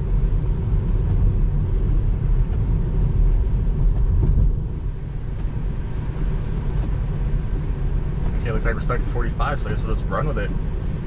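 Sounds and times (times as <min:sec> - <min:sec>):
tyre and road noise in car cabin: 0:00.0 - 0:11.0.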